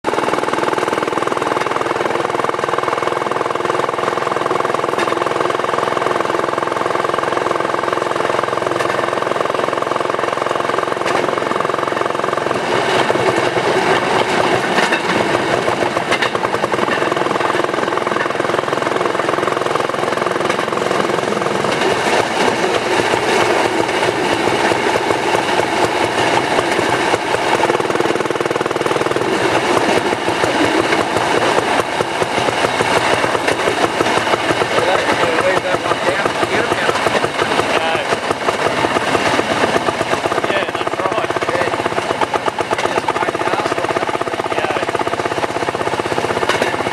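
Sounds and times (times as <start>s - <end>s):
rail car engine running: 0.0s - 46.9s
steel wheels clattering on rails: 0.1s - 46.9s.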